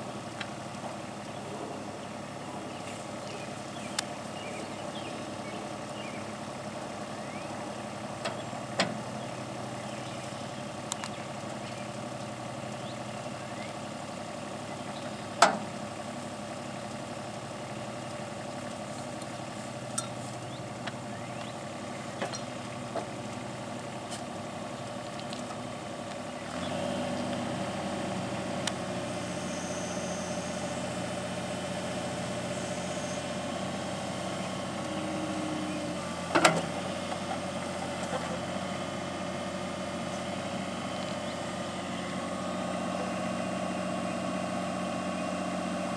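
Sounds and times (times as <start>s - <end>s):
excavator engine running: 0.0s - 45.9s.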